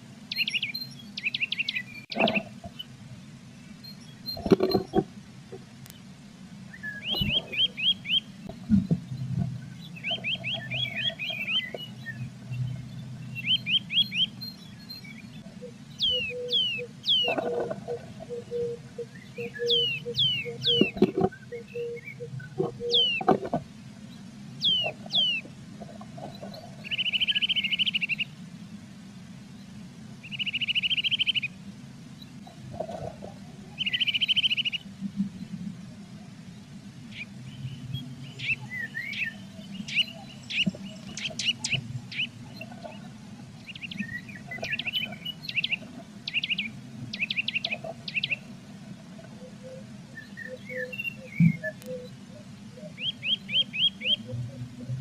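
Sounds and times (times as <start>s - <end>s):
birds singing and calling: 0.0s - 35.6s, 36.4s - 55.0s
low steady rumble: 0.0s - 50.6s.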